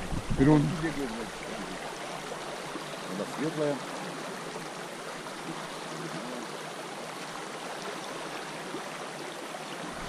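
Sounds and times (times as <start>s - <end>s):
water flowing over stones: 0.0s - 10.0s.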